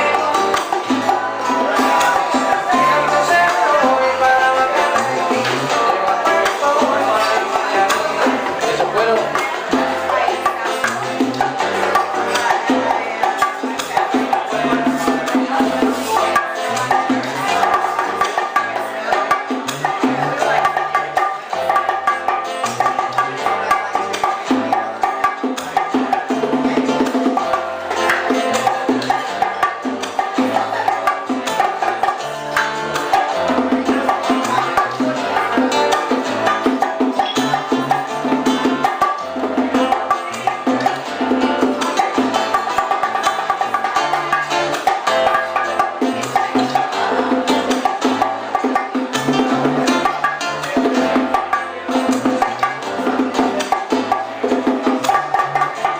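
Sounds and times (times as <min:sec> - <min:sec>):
bass line: 0:00.0 - 0:55.9
hand percussion: 0:00.0 - 0:55.9.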